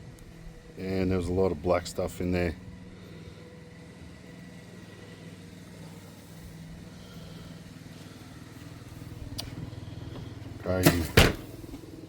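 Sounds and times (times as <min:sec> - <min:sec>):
car engine idling: 0:00.3 - 0:12.0.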